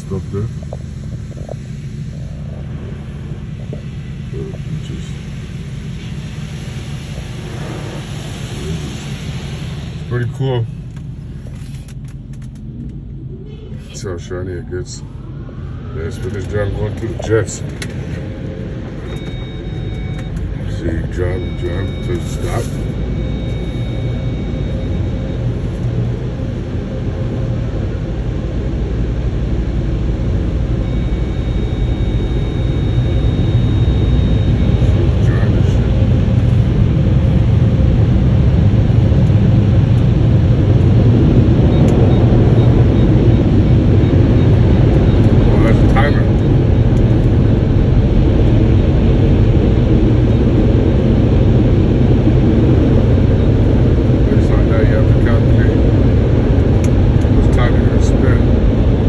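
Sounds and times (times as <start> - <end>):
car wash machinery rushing: 0.0 - 59.0.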